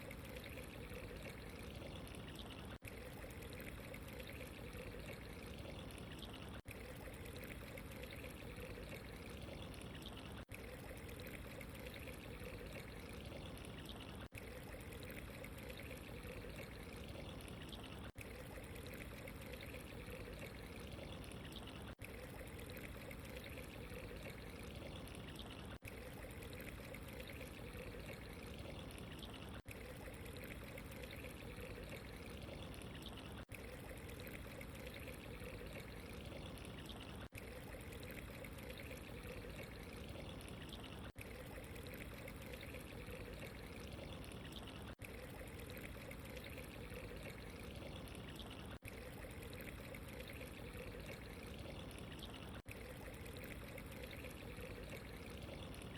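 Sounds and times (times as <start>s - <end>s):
running water trickling: 0.0s - 55.9s.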